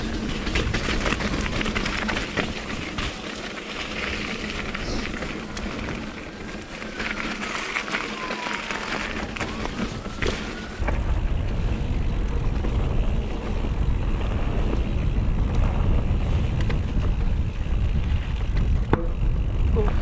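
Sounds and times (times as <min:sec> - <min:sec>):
bike rattles and clicks: 0:00.0 - 0:20.0
bike tyre noise on dirt: 0:00.0 - 0:20.0
low wind rumble on microphone: 0:00.0 - 0:20.0.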